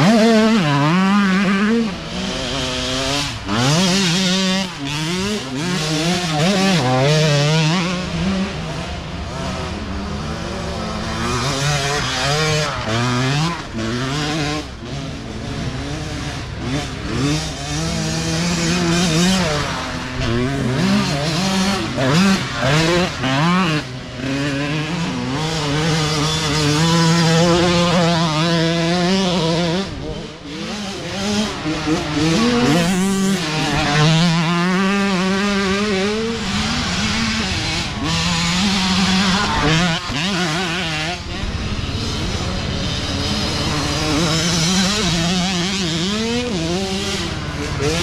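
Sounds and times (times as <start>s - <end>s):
dirt bike engines racing: 0.0s - 48.0s.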